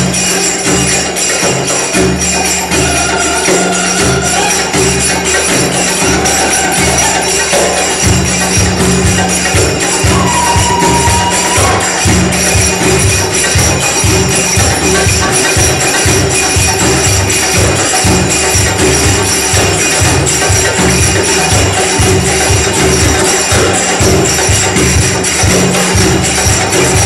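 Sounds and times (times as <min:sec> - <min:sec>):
finger cymbals ringing: 0:00.0 - 0:27.0
steady drum beat: 0:00.0 - 0:27.0.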